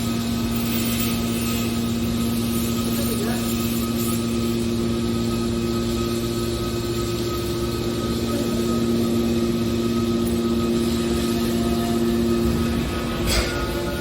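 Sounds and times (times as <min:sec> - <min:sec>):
hydraulic power unit humming: 0:00.0 - 0:14.0.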